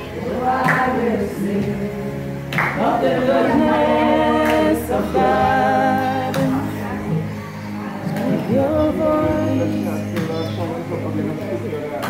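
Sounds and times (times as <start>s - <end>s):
voices singing held notes: 0.0s - 11.1s.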